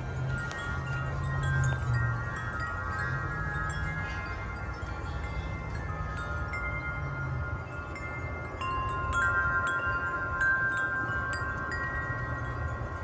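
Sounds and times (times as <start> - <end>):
wind chimes ringing: 0.0 - 13.0
wind rumbling on microphone: 0.0 - 13.0.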